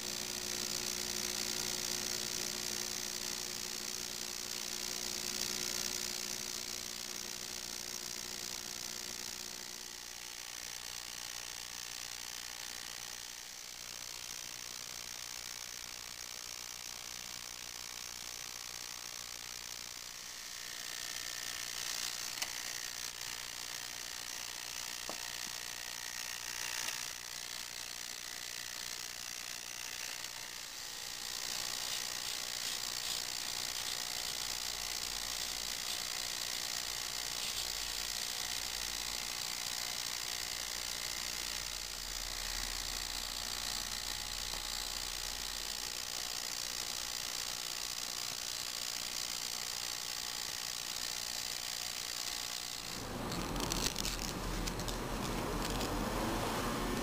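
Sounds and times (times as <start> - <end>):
ultrasonic cleaner buzzing hiss: 0.0 - 57.0.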